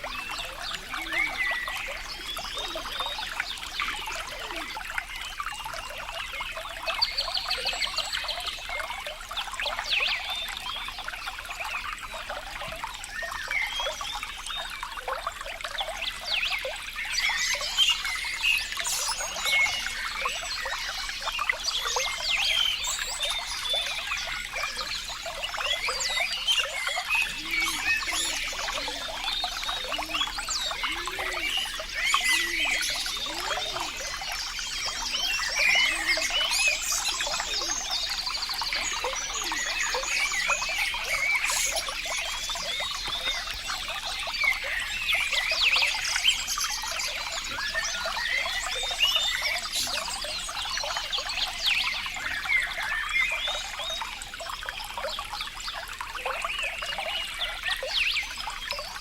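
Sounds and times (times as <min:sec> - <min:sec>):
water babbling over stones: 0:00.0 - 0:59.0.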